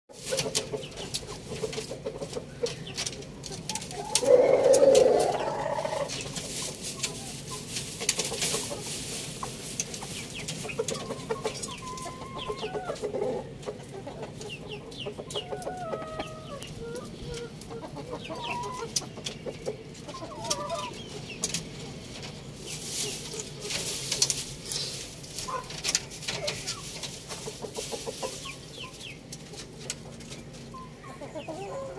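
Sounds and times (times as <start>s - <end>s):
chickens clucking and calling: 0.1s - 31.9s.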